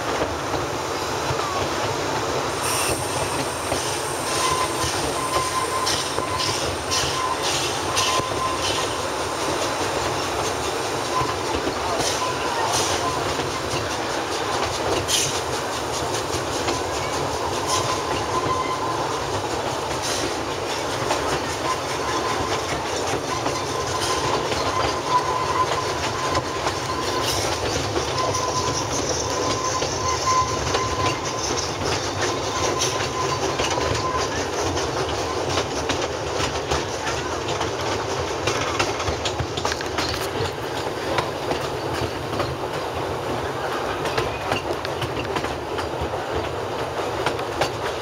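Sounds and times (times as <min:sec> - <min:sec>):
train car rumble and rattle: 0:00.0 - 0:48.0
wheels clicking over rail joints: 0:05.3 - 0:48.0.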